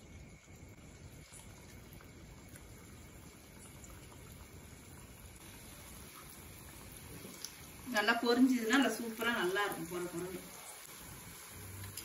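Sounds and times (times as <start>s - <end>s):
light crackles: 0.0s - 8.0s, 8.6s - 12.0s
hot oil sizzling and bubbling: 0.0s - 12.0s.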